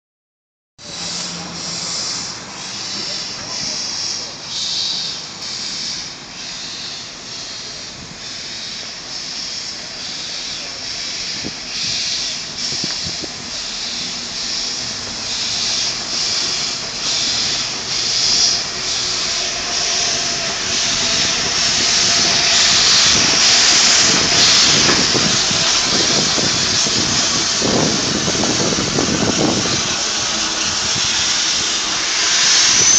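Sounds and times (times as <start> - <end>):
heavy hiss of steam: 0.8 - 32.9
steam locomotive exhaust puffing: 0.8 - 32.9.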